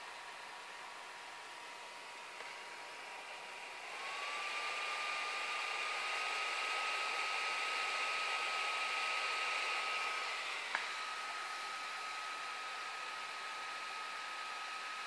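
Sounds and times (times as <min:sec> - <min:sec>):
laptop cooling fan whirring: 0:00.0 - 0:15.0.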